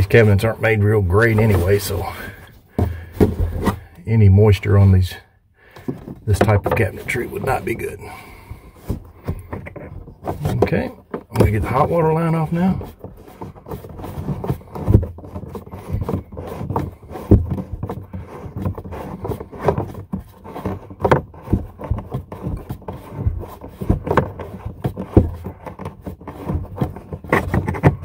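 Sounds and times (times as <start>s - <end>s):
scraping against a fitting: 0.0s - 28.0s.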